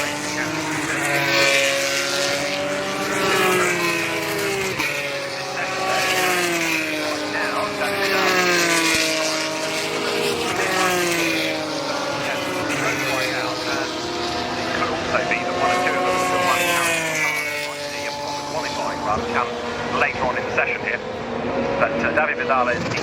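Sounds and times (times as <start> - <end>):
racing cars passing by: 0.0 - 23.0.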